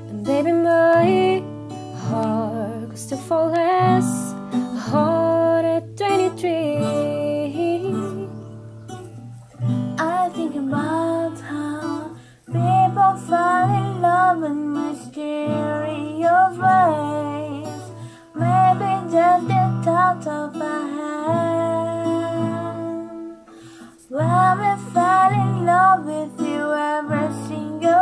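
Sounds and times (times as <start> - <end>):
woman singing a ballad: 0.0 - 8.6, 9.7 - 28.0
acoustic guitar: 0.0 - 28.0.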